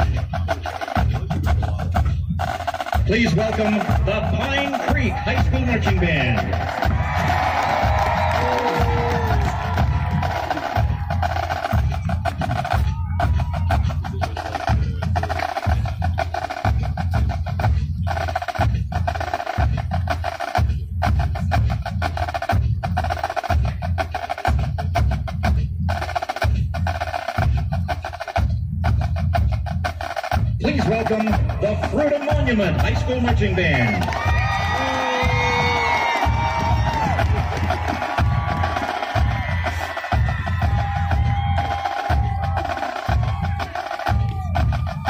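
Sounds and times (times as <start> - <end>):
marching snare and bass drums: 0.0 - 45.0.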